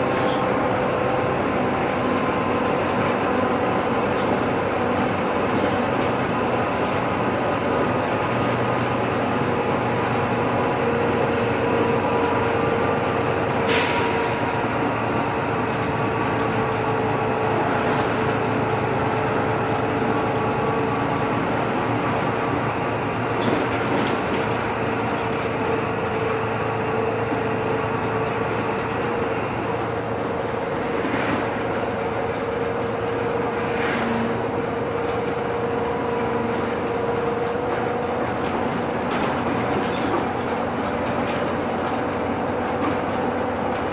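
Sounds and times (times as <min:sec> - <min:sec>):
bus engine and road noise: 0:00.0 - 0:43.9.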